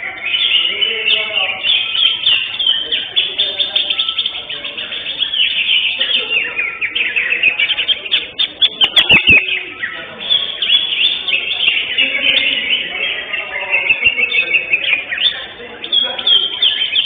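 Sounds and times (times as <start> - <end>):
caged birds chirping and whistling: 0.0 - 17.0.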